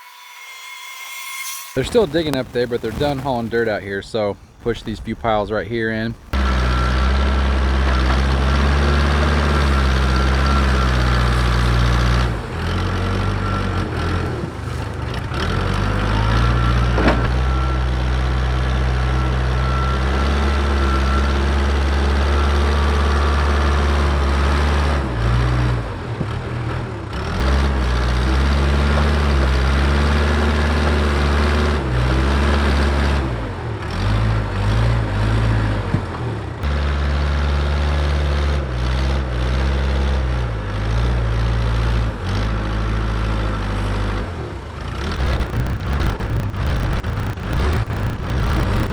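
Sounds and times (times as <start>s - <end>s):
diesel engine under load: 1.8s - 48.9s.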